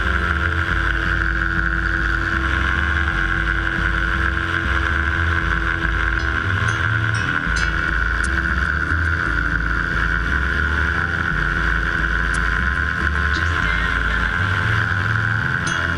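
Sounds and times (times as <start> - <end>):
engine and propeller running: 0.0 - 15.9.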